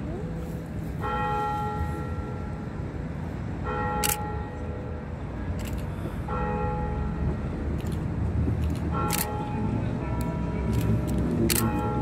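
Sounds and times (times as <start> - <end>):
tram bell ringing: 0.0 - 5.5, 6.1 - 12.0
tram rumbling on track: 0.0 - 12.0.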